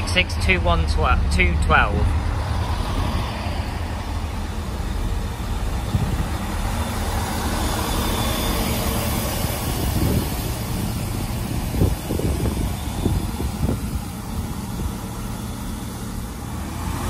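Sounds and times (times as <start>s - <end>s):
diesel engine rumble: 0.0s - 17.0s
train wheels rolling on rails: 2.0s - 17.0s.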